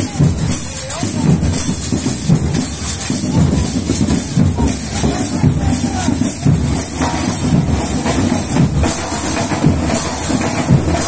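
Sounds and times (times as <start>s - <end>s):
marching band drums and cymbals: 0.0s - 11.0s.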